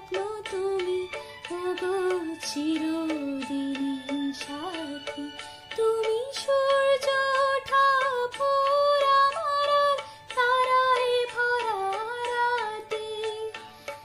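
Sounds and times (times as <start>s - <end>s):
woman singing ornamented notes: 0.0s - 13.6s.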